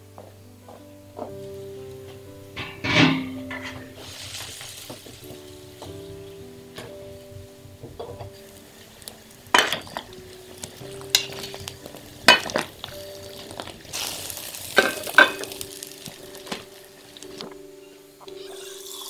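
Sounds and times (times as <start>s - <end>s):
water boiling and bubbling: 2.6s - 19.0s.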